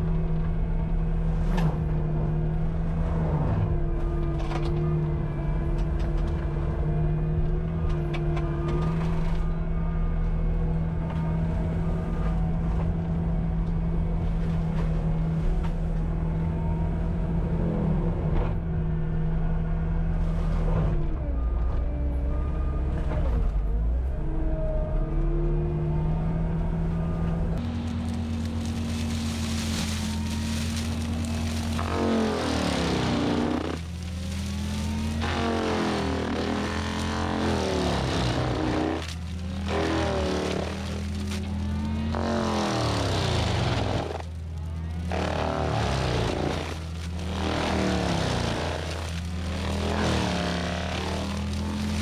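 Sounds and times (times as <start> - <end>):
diesel engine running at high revs: 0.0 - 52.0.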